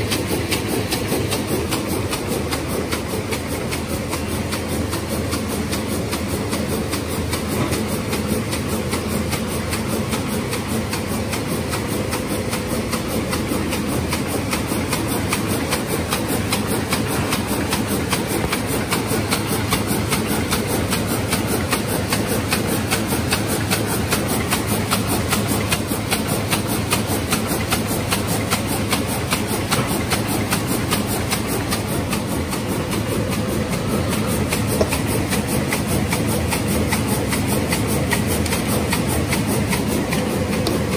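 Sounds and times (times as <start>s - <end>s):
machine clattering: 0.0s - 40.9s.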